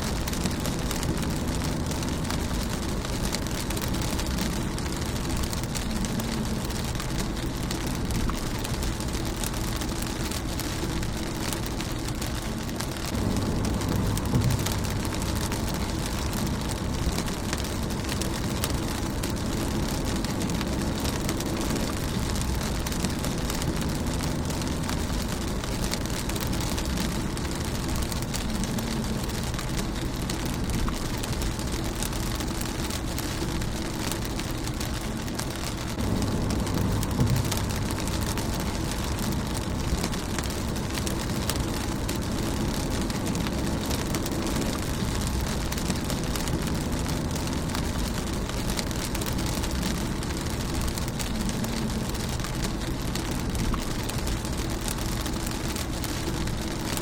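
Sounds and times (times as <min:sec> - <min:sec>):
rain on a car: 0:00.0 - 0:57.0.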